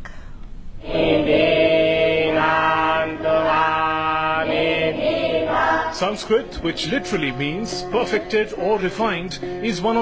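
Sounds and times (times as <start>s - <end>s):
group chanting in unison: 0.8s - 8.9s.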